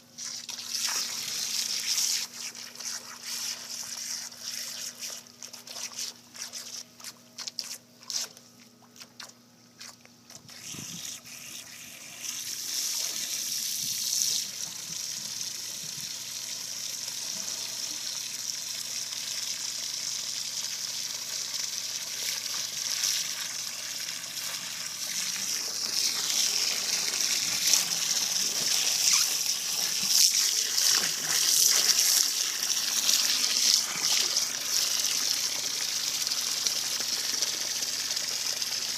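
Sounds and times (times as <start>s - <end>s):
water from hose splashing: 0.0s - 38.9s.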